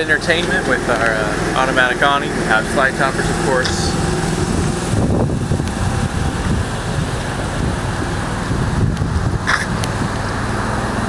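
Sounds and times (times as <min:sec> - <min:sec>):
traffic noise: 0:00.0 - 0:11.0
wind buffeting microphone: 0:00.0 - 0:11.0.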